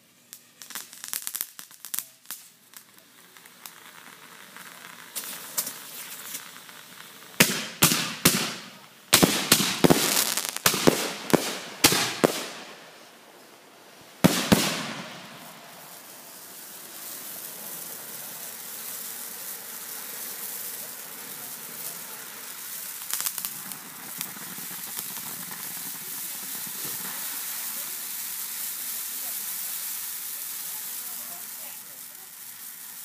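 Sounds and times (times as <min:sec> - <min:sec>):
fireworks hissing: 0:00.0 - 0:33.0
sharp crackling pops: 0:00.3 - 0:33.0.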